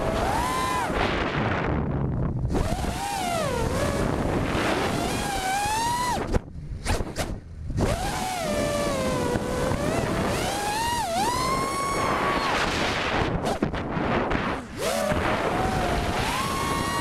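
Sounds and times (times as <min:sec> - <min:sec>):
drone motors whining: 0:00.0 - 0:01.4, 0:02.5 - 0:06.4, 0:07.8 - 0:17.0
wind rush: 0:00.0 - 0:17.0.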